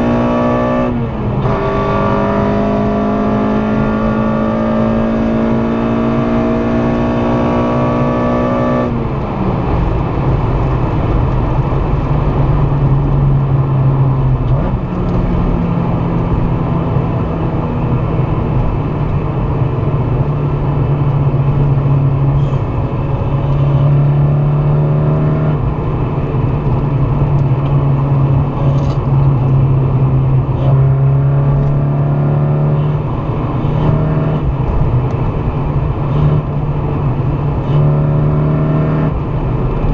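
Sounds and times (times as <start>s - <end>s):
car engine under throttle: 0.0s - 39.9s
road and wind noise: 0.0s - 39.9s.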